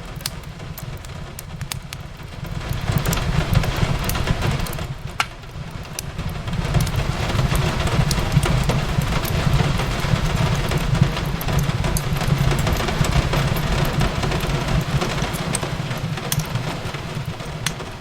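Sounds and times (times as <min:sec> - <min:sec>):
fireplace crackling: 0:00.0 - 0:18.0
rain hiss: 0:00.0 - 0:18.0.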